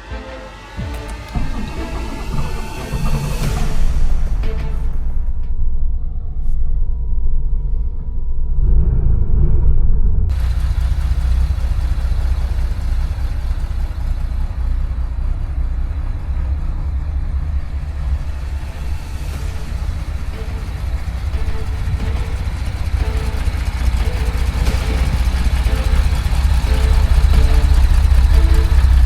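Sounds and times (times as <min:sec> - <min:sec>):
car engine rumble: 0:00.3 - 0:29.0.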